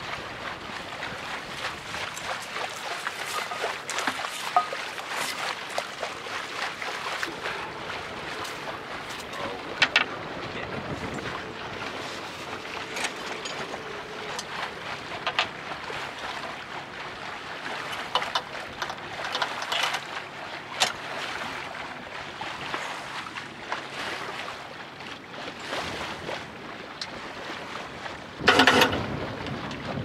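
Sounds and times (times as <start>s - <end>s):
wind: 0.0s - 30.0s.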